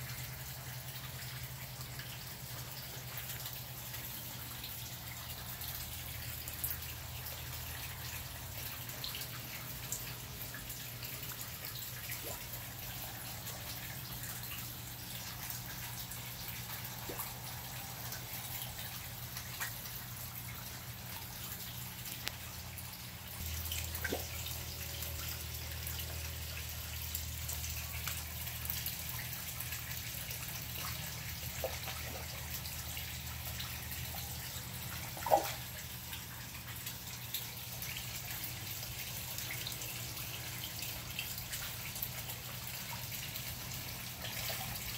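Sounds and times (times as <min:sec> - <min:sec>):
water drips and plops: 0:00.0 - 0:44.9.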